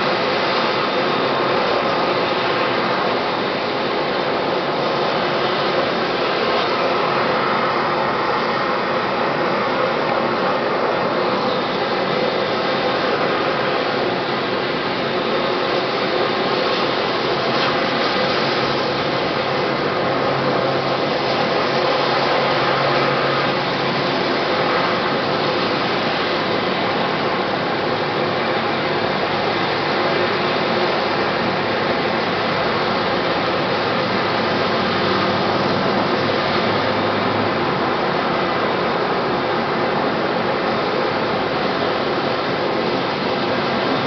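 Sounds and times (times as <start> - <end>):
helicopter turbine whine: 0.0 - 44.0.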